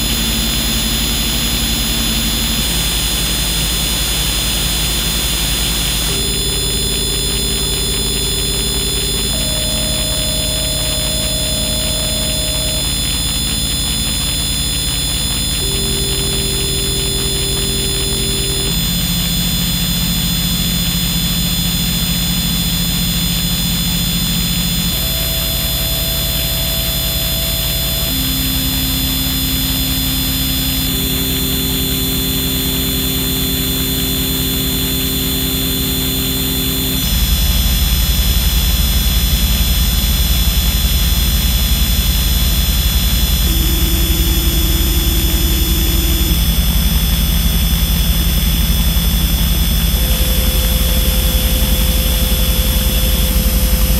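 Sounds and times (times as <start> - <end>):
electronic drone music: 0.0 - 53.9.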